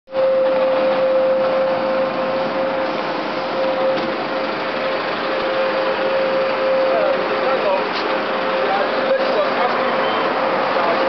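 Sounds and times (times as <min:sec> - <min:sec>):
mechanical hum with steady tone: 0:00.1 - 0:11.0.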